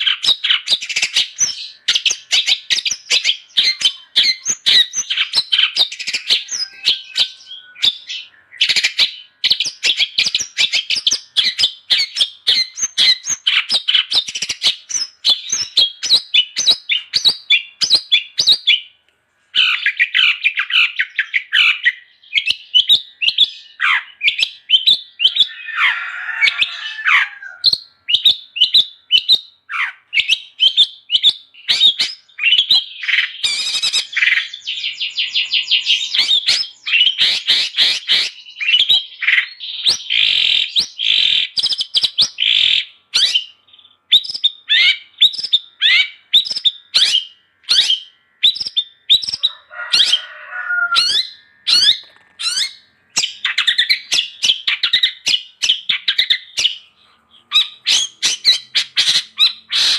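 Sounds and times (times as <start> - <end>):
bird singing chirps and whistles: 0.0 - 19.0, 19.6 - 59.9.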